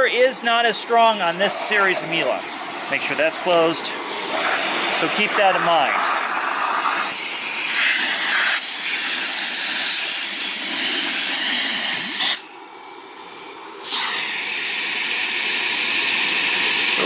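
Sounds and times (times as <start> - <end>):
vacuum cleaner running: 0.8 - 12.5, 13.9 - 17.0.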